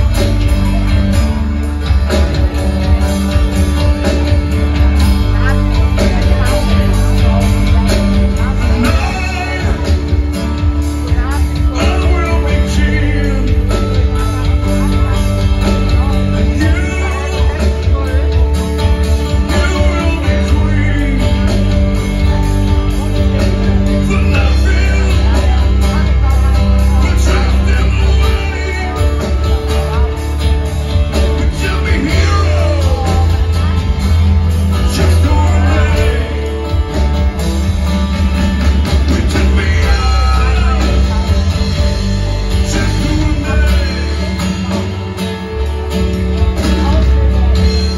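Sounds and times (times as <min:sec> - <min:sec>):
drums: 0:00.0 - 0:47.9
electric guitars: 0:00.0 - 0:47.9
heavy bass line: 0:00.0 - 0:47.9
live rock band playing: 0:00.0 - 0:47.9
person singing: 0:00.0 - 0:47.9.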